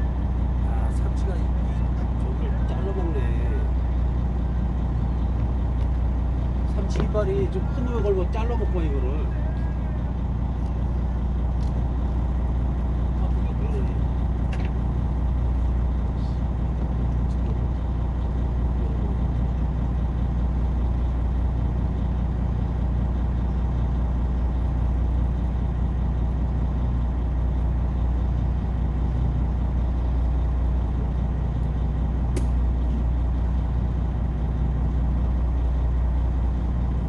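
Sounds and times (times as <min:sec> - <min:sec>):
boat engine humming: 0:00.0 - 0:37.0.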